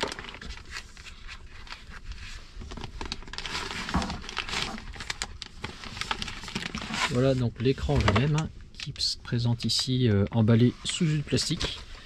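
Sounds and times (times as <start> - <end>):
packaging rustling and scraping: 0.0 - 8.4, 10.5 - 12.0.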